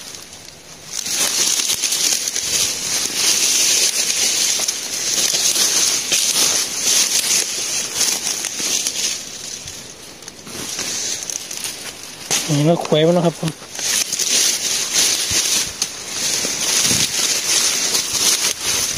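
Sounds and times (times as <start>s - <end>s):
dry leaves rustling and crackling: 0.0s - 18.9s.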